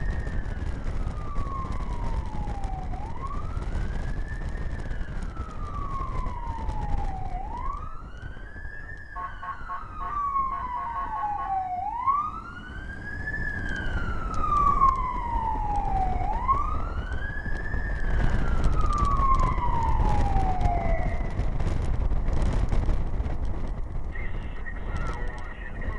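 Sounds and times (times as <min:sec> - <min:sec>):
siren wailing: 0:00.0 - 0:22.6
vehicle road and engine rumble: 0:00.0 - 0:25.9.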